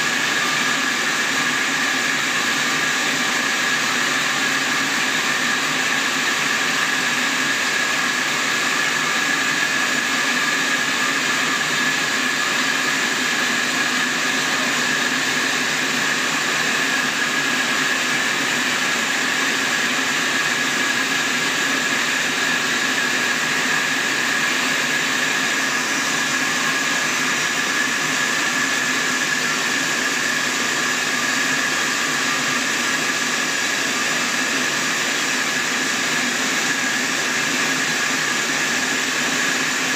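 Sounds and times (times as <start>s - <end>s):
sawmill machine whining: 0.0s - 39.9s.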